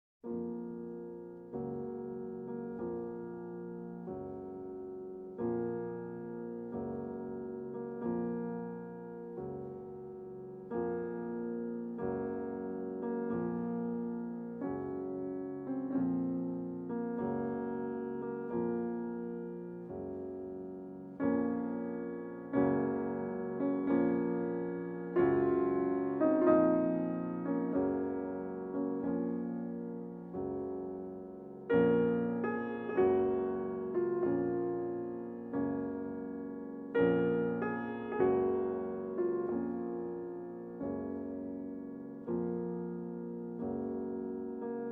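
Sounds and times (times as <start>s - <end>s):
gentle piano chords: 0.2s - 44.9s.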